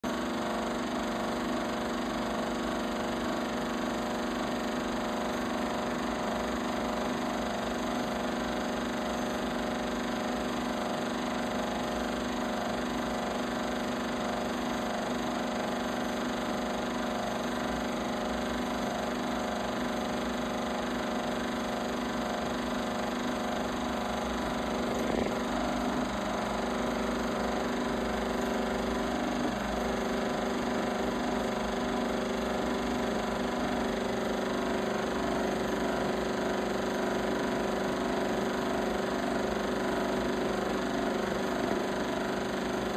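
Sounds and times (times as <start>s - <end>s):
film projector running: 0.0s - 42.9s.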